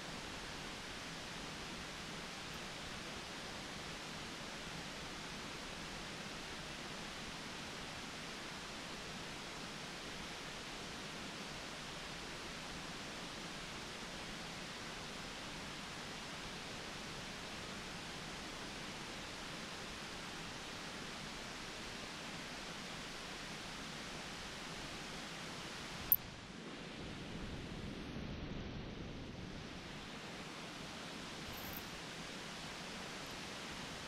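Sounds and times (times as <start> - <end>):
steady microphone hiss: 0.0 - 34.0.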